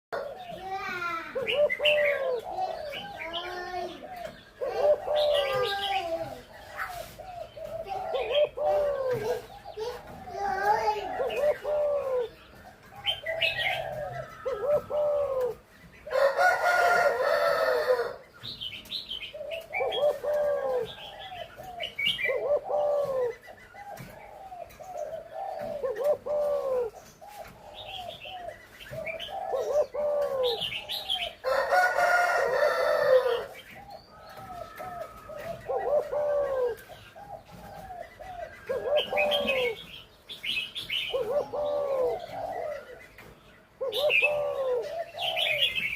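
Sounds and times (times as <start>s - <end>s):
dove cooing: 0.2s - 45.9s.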